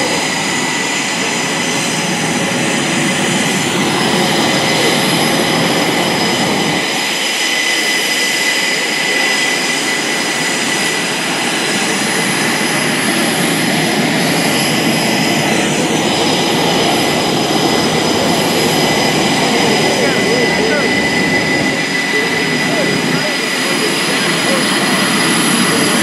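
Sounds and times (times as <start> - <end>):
jet engine whine: 0.0 - 26.0.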